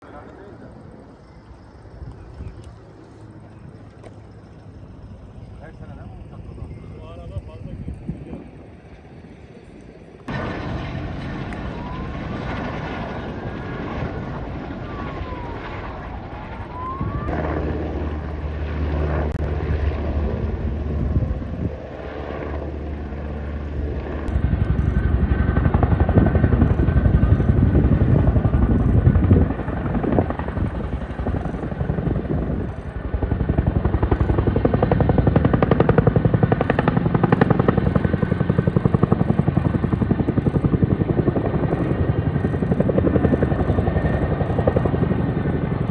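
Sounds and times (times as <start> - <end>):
helicopter engine hum: 0.0 - 45.9
helicopter rotor chop: 0.0 - 45.9.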